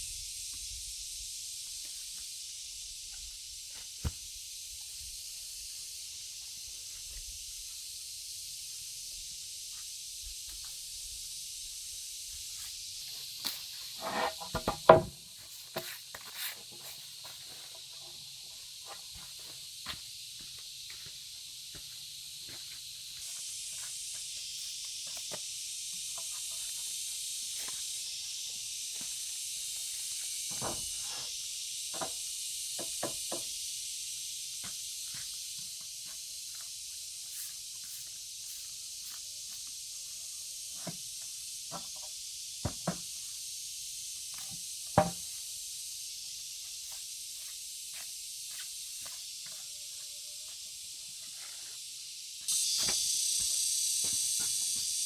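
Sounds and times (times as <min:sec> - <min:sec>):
high-pitched hiss: 0:00.0 - 0:55.0.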